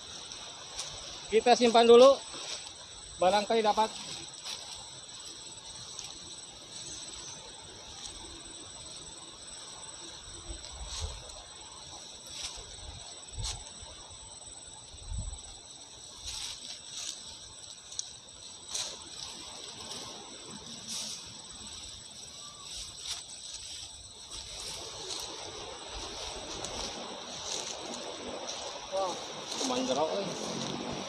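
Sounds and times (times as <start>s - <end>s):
footsteps through dry grass: 0.0s - 31.0s
insects trilling: 0.0s - 31.0s.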